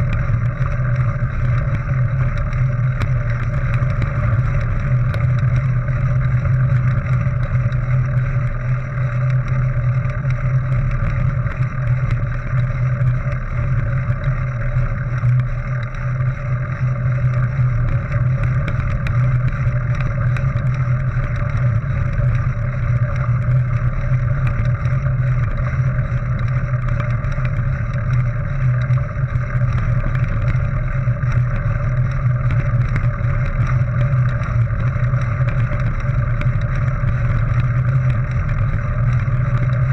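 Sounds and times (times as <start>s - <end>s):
bike tyres rolling over gravel: 0.0s - 39.9s
rattles and clicks from bike: 0.0s - 39.9s.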